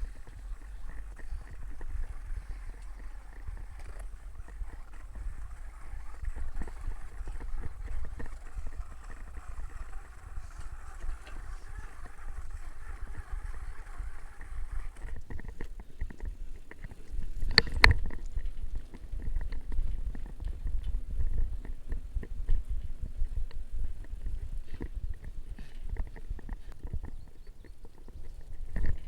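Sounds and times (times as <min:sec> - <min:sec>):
bicycle rattles: 0:00.0 - 0:29.0
wind buffeting microphone: 0:00.0 - 0:29.0.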